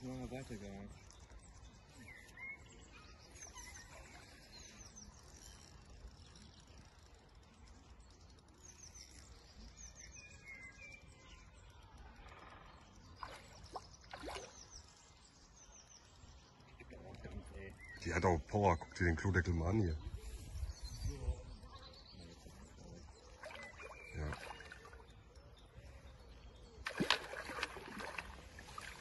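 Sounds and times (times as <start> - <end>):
small birds chirping faintly: 0.0 - 29.0.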